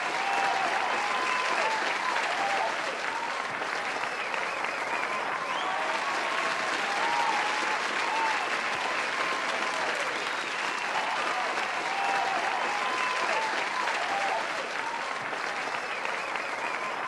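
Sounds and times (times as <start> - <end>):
audience applauding: 0.0 - 17.0
cheers and whoops: 0.0 - 17.0.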